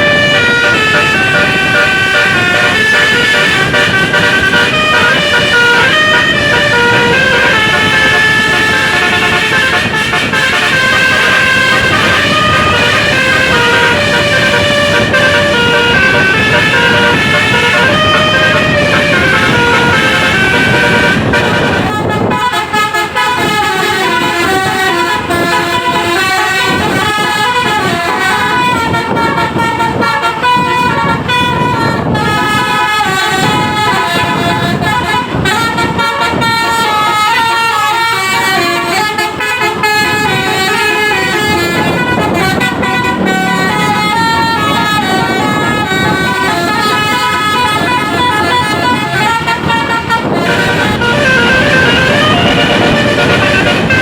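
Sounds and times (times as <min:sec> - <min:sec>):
bus air horn playing a tune: 0:00.0 - 0:54.0.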